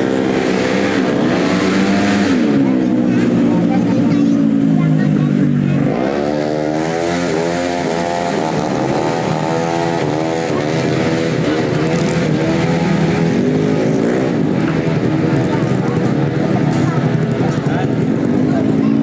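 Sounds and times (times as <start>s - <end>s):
scooter engines revving hard: 0.0s - 19.0s.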